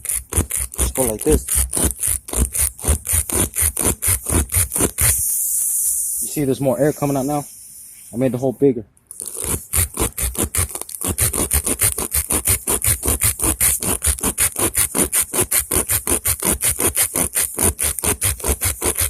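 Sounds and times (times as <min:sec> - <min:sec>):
reamer tool rasping in tire: 0:00.0 - 0:08.3, 0:09.1 - 0:19.0.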